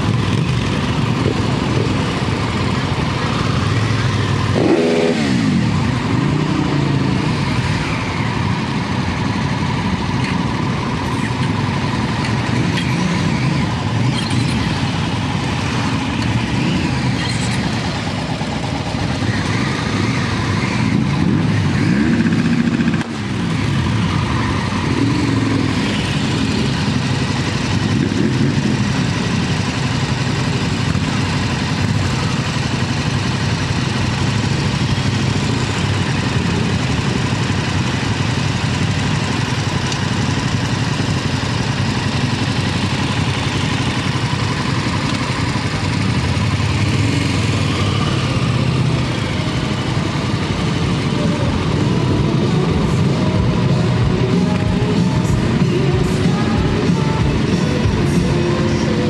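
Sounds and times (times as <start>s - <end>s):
motorcycle engines running: 0.0s - 59.0s.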